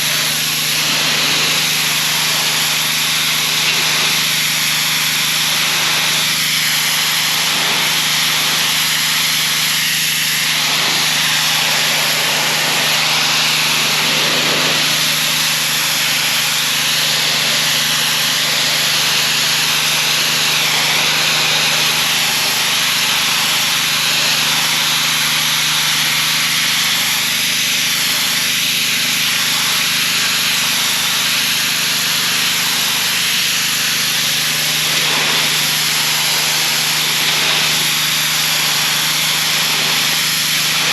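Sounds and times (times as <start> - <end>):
high-pressure water jet hissing: 0.0 - 40.9
pressure washer engine humming: 0.0 - 40.9.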